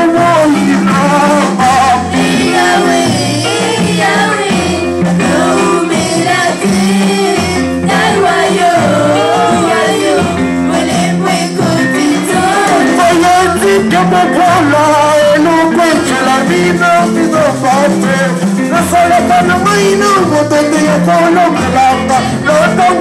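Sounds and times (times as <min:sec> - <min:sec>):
electronic keyboard: 0:00.0 - 0:23.0
people singing: 0:00.0 - 0:23.0
percussion rhythm: 0:00.0 - 0:23.0.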